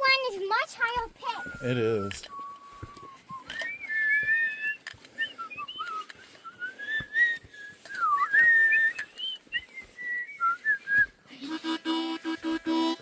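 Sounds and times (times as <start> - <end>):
person whistling a tune: 1.3 - 13.0.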